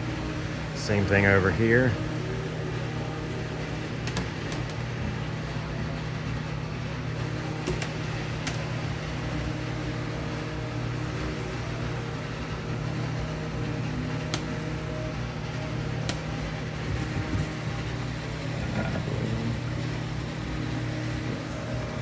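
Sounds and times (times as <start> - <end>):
low mechanical room hum: 0.0 - 22.0.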